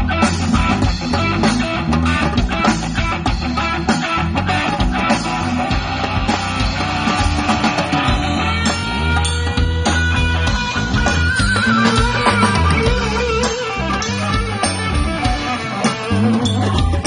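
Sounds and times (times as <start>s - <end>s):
drum kit beating: 0.0s - 17.0s
live rock band playing: 0.0s - 17.0s.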